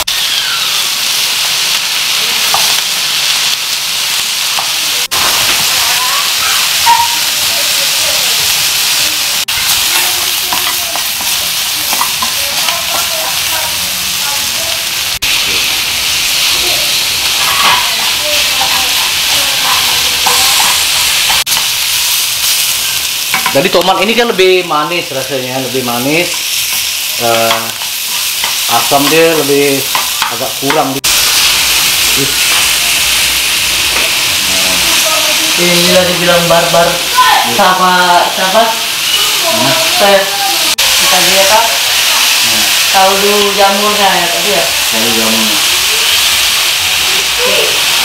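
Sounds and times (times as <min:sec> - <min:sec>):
mushrooms sizzling in oil: 0:00.0 - 0:48.0.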